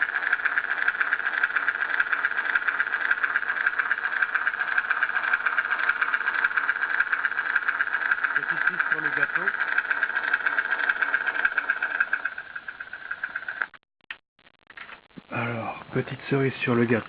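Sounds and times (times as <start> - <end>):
thin buzzy engine idling recording: 0.0 - 13.7.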